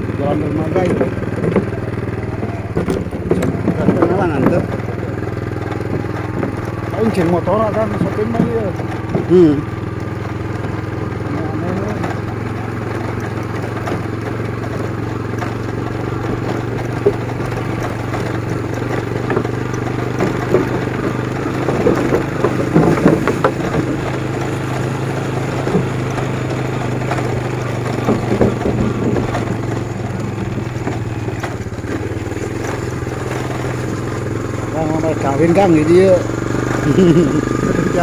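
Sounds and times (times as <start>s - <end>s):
knocks and rattles: 0.0s - 38.0s
small motorcycle engine running: 0.0s - 38.0s.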